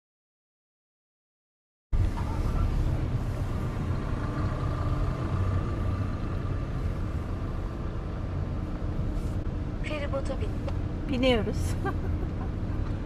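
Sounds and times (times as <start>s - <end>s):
vehicle engine idling: 2.0s - 13.0s.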